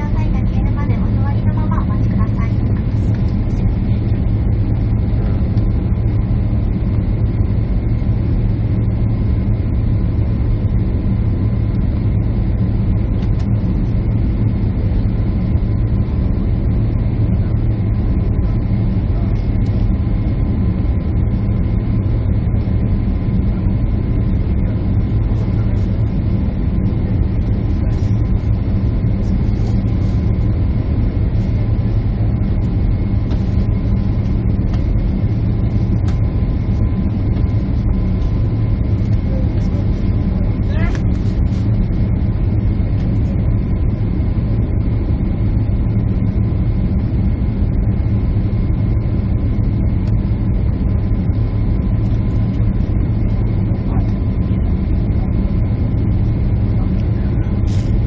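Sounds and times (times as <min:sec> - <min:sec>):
constant low hum: 0:00.0 - 0:58.0
jet engines rumbling: 0:00.0 - 0:58.0.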